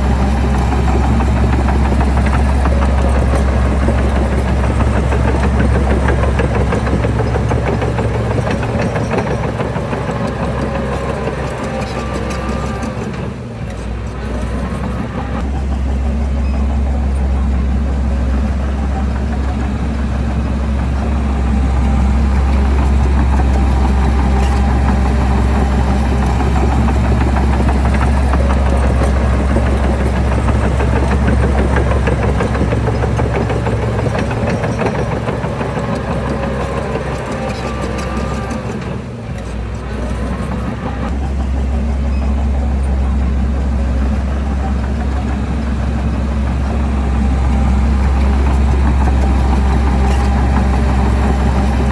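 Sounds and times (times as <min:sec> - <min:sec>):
heavy diesel engine humming: 0:00.0 - 0:51.9.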